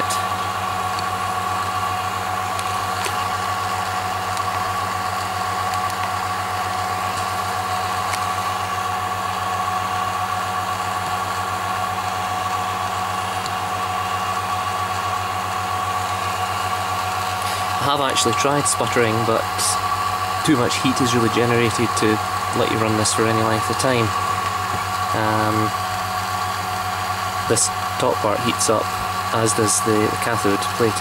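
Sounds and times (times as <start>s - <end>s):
high whine: 0.0s - 31.0s
vacuum pump humming: 0.0s - 31.0s.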